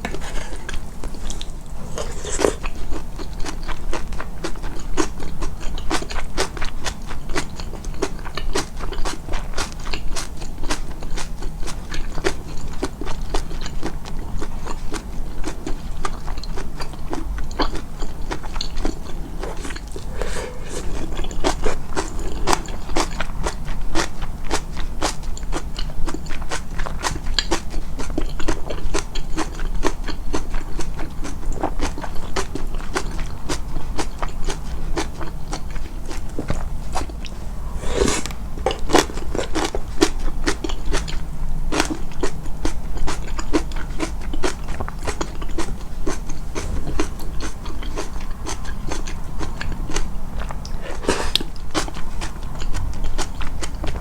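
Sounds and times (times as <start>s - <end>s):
chewing food: 0.0s - 54.0s.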